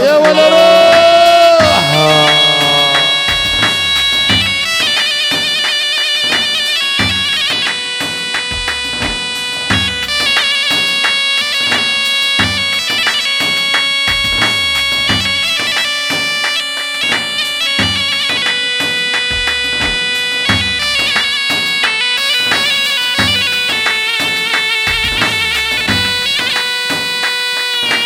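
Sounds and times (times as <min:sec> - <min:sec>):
piercing wind instrument melody: 0:00.0 - 0:28.0
regular drum beat: 0:00.0 - 0:28.0.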